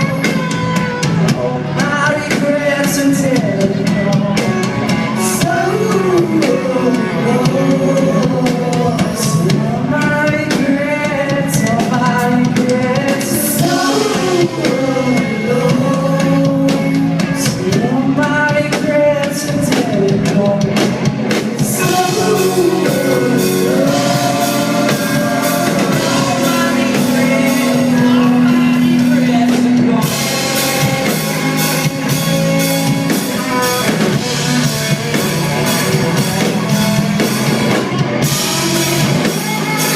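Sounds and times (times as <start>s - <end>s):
drums: 0.0s - 39.9s
guitar: 0.0s - 39.9s
rock song with vocals: 0.0s - 39.9s.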